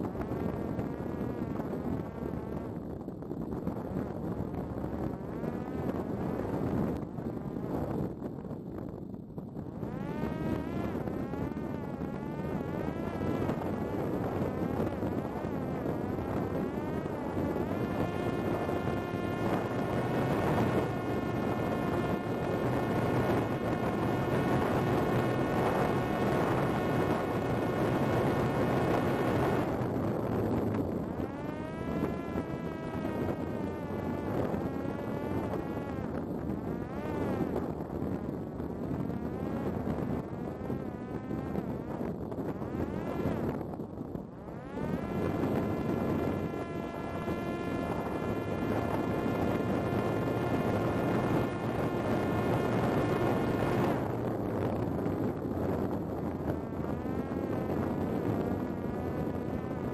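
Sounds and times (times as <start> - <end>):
drone motor and propeller buzzing: 0.0 - 59.9.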